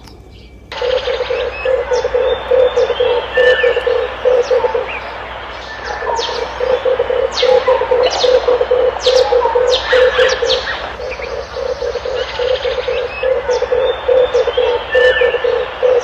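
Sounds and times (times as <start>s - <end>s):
small birds chirping: 0.0s - 16.0s
dove cooing: 0.7s - 16.0s.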